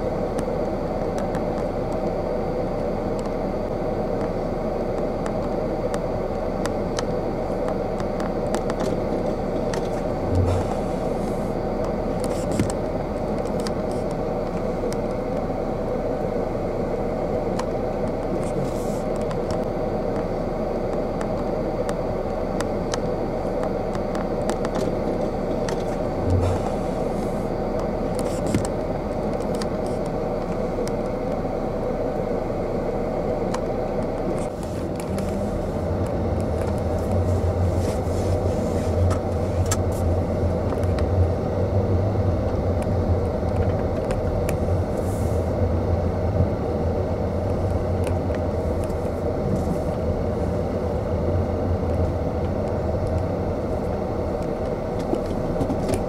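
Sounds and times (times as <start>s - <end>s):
car driving rumble: 0.0s - 56.0s
car hum: 0.0s - 56.0s.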